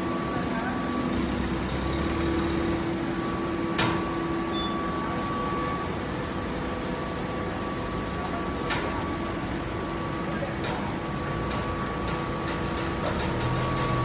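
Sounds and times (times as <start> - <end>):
faint steady whine: 0.0 - 12.6
baler machine hum: 0.0 - 14.0.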